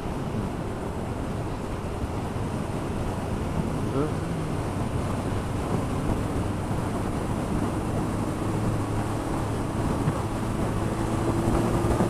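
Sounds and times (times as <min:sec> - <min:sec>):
motorcycle engine drone: 0:00.0 - 0:12.0
wind rushing over microphone: 0:00.0 - 0:12.0.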